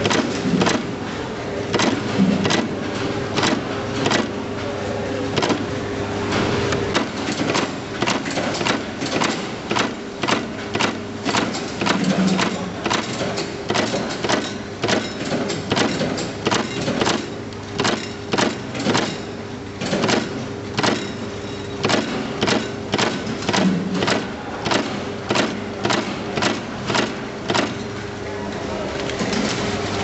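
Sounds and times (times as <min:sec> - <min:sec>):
crimping press clacking: 0:00.0 - 0:00.9, 0:01.7 - 0:04.4, 0:06.7 - 0:27.8
steady machine hum: 0:00.0 - 0:30.0.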